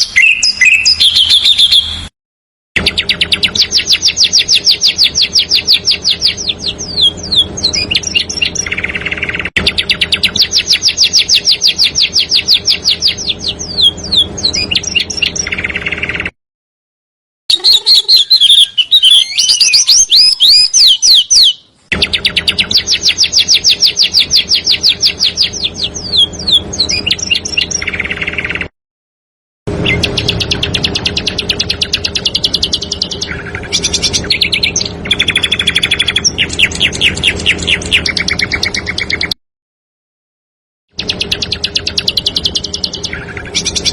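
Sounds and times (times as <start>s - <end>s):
songbird trill: 0.0s - 2.1s, 2.8s - 16.3s, 17.5s - 28.7s, 29.8s - 39.4s, 41.0s - 43.9s
varied high bird chirps: 0.0s - 2.1s, 2.8s - 16.4s, 17.5s - 28.7s, 29.7s - 39.4s, 40.9s - 43.9s.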